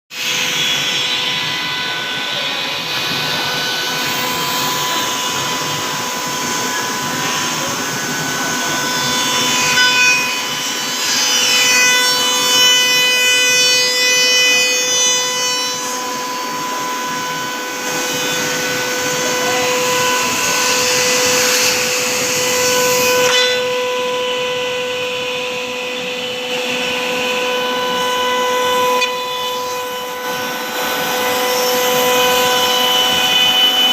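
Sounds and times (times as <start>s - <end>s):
router spindle high whine: 0.2s - 33.9s.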